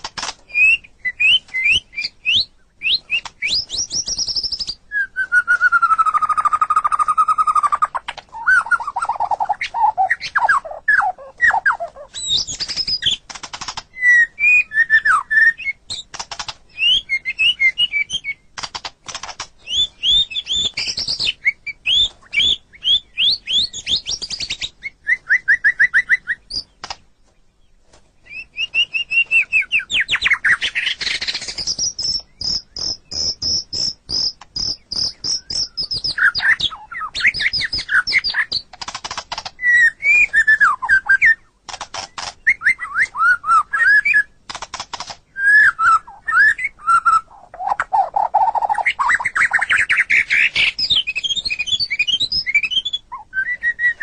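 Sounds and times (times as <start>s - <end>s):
bird clicks and chatter: 0.0s - 2.1s, 2.8s - 4.8s, 5.5s - 27.4s, 28.3s - 53.1s
bird singing whistled phrases: 0.5s - 13.2s, 14.0s - 16.0s, 16.7s - 18.5s, 19.6s - 26.8s, 28.3s - 38.6s, 39.6s - 41.5s, 42.4s - 44.4s, 45.3s - 54.0s.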